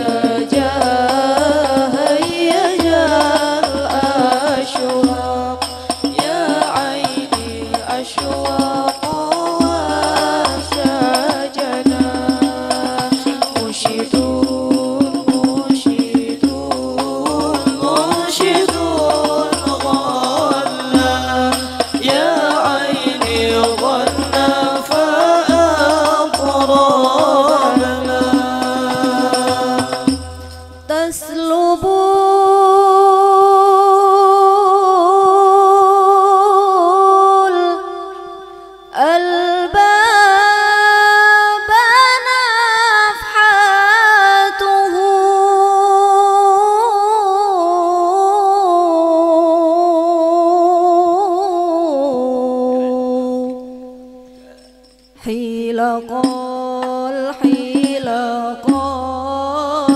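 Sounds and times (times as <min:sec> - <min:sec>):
devotional singing with low beats: 0:00.0 - 0:59.9
woman singing into a microphone: 0:00.0 - 0:59.9.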